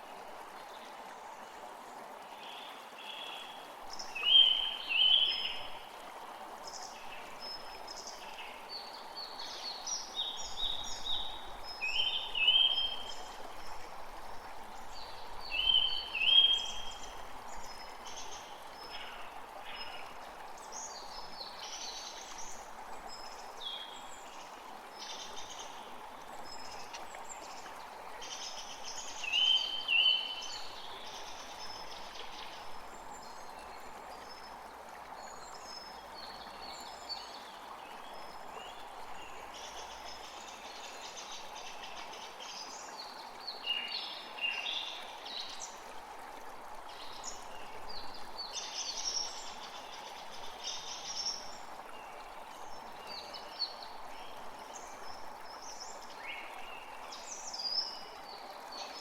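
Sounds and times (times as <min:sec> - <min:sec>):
creek flowing: 0:00.0 - 0:59.0.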